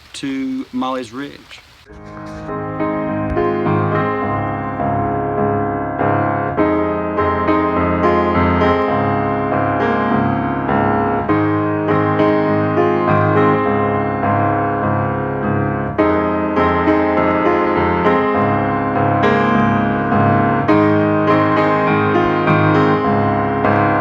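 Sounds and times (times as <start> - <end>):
gentle piano melody: 1.8 - 24.0.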